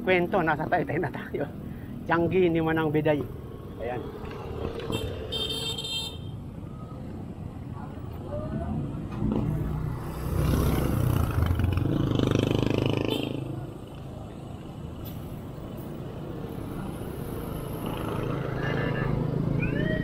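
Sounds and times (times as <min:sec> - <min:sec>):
traffic noise: 0:00.0 - 0:20.0
wind: 0:00.0 - 0:20.0.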